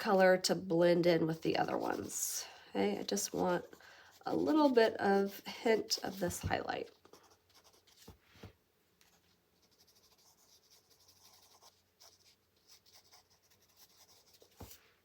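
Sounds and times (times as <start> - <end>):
pencil scratching on paper: 1.1 - 8.2, 9.1 - 14.8.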